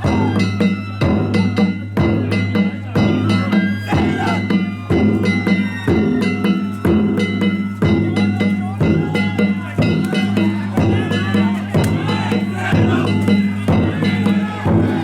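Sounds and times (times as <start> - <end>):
drum beat: 0.0 - 15.0.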